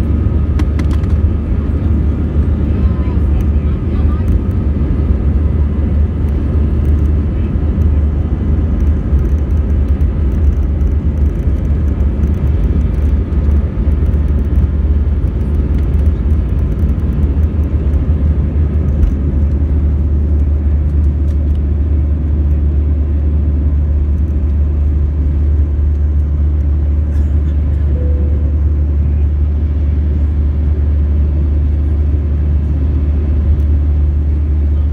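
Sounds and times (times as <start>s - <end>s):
jet engines roaring in cabin: 0.0s - 34.9s
takeoff roll rumble: 0.0s - 34.9s.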